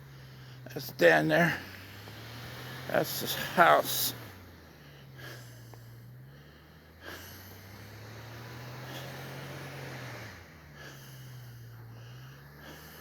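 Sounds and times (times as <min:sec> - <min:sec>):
distant car engine: 0:00.0 - 0:13.0.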